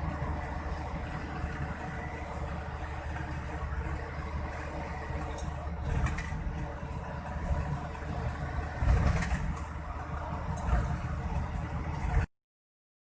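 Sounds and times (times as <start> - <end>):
truck engine running: 0.0 - 12.3.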